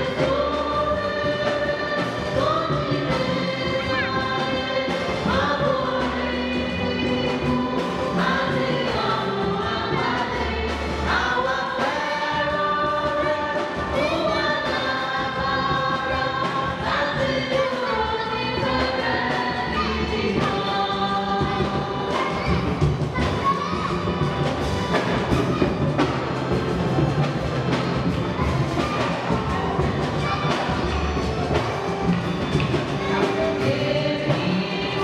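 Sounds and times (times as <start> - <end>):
choir singing: 0.0 - 35.0
low accompaniment: 0.0 - 35.0.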